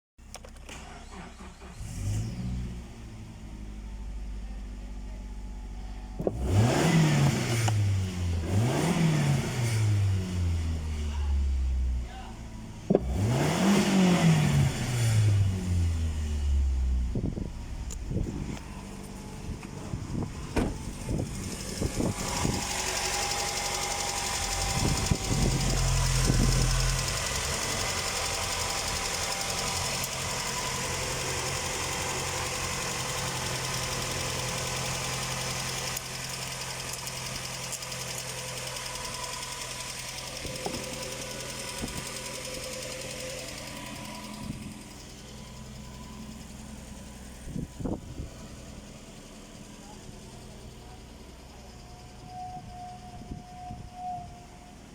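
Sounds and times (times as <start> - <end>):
car engine revving and idling: 0.5 - 54.9.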